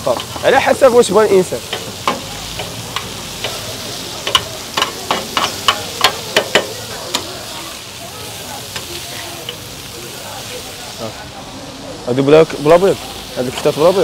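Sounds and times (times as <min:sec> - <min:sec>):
food sizzling on griddle: 0:00.0 - 0:14.0.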